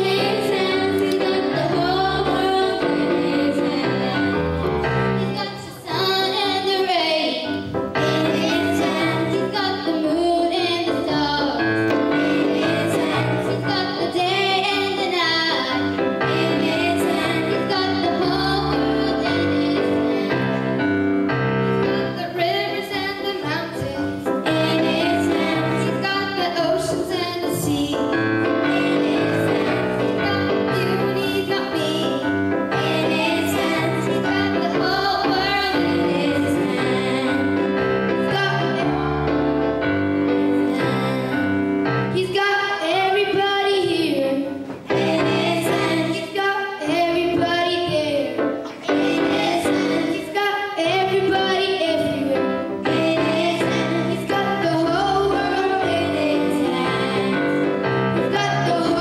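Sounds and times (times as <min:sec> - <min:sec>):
girls singing into microphones: 0:00.0 - 0:20.7, 0:21.8 - 0:39.2, 0:40.4 - 0:59.0
instrumental accompaniment: 0:00.0 - 0:59.0.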